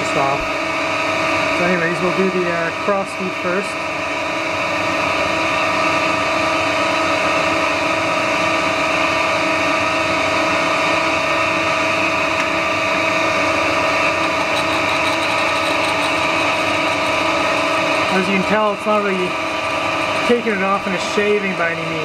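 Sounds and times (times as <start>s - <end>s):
metal lathe whining: 0.0s - 22.0s.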